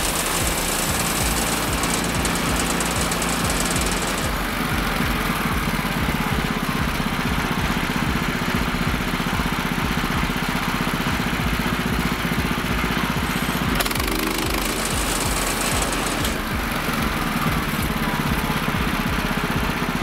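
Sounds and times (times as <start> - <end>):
gasoline engine running steadily: 0.0 - 20.0.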